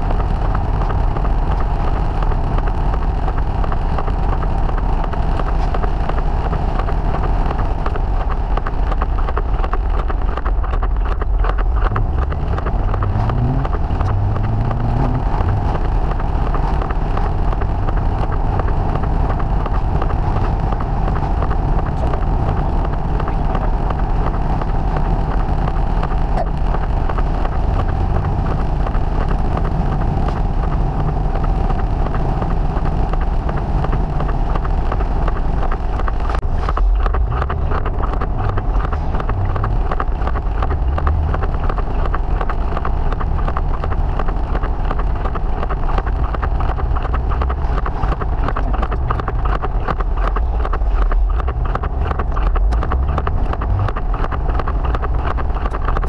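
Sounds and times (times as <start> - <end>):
car engine running: 0.0 - 56.0
fast dense ticking: 0.0 - 56.0
wind: 0.0 - 56.0.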